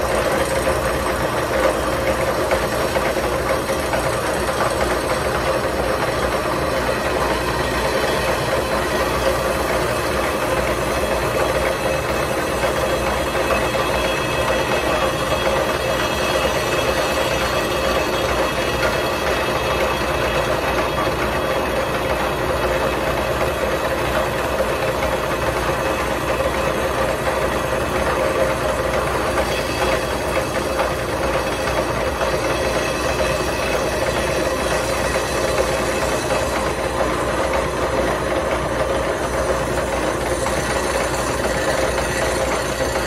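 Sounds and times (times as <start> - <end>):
milling machine cutting metal: 0.0 - 43.0.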